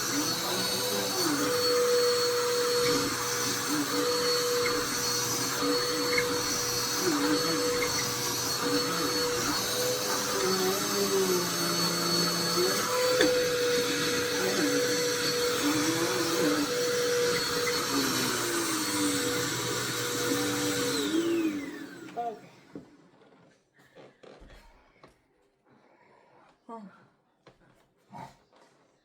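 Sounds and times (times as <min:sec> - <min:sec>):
vacuum cleaner motor whining: 0:00.0 - 0:23.4.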